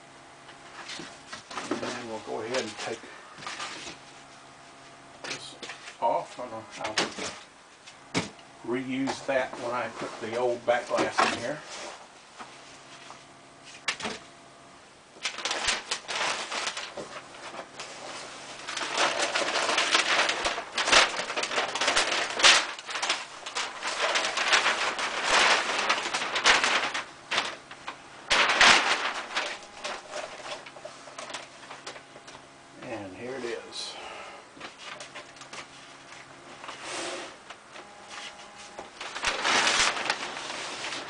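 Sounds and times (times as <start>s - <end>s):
paper and plastic wrap rustling: 0.5s - 7.5s, 8.7s - 14.2s, 15.1s - 33.6s, 34.6s - 41.0s.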